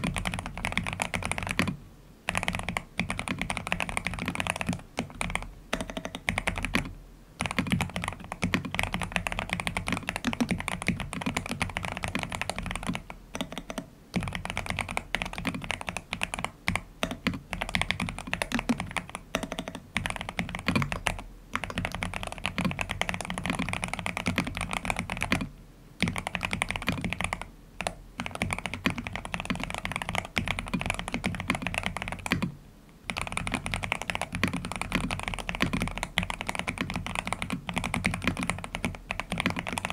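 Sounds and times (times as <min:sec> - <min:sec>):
fast mechanical keyboard typing: 0:00.0 - 0:32.5, 0:33.1 - 0:39.9.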